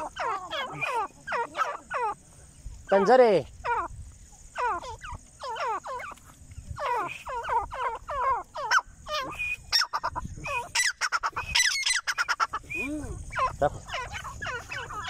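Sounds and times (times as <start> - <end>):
francolin calling: 0.0 - 15.0.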